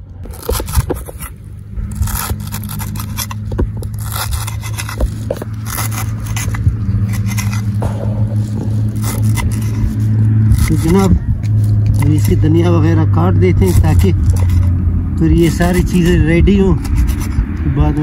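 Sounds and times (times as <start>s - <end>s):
objects scraping and clicking: 0.0s - 12.8s, 13.4s - 17.7s
steady low hum: 0.0s - 17.7s.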